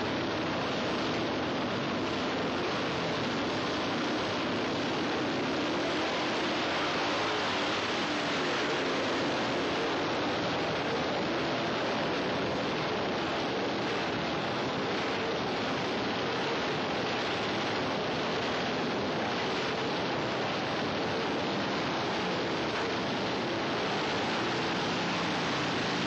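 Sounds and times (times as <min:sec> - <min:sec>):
many motorcycle engines running: 0:00.0 - 0:26.0.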